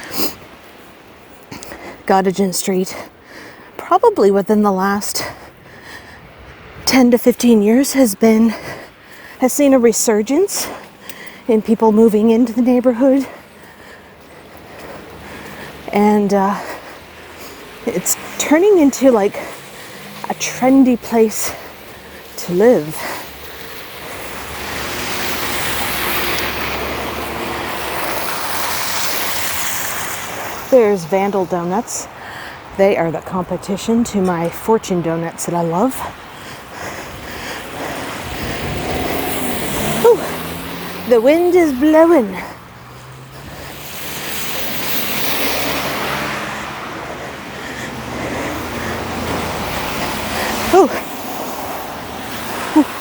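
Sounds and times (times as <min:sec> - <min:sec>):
tyres hissing on road: 0:00.0 - 0:06.8, 0:07.4 - 0:53.0.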